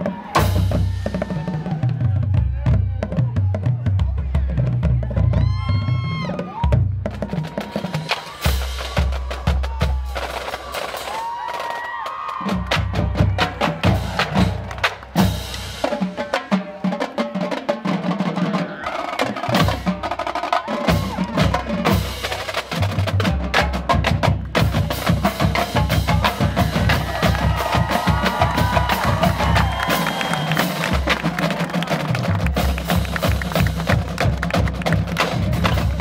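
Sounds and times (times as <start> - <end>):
marching drumline playing: 0.0 - 36.0.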